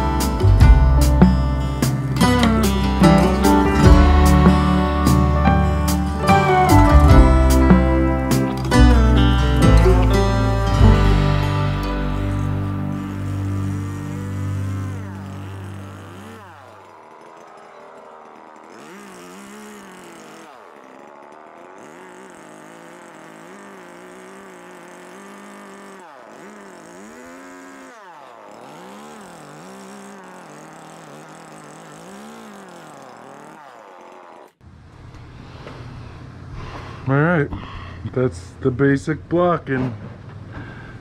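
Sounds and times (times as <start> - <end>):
chainsaw revving while cutting wood: 0.0 - 34.6.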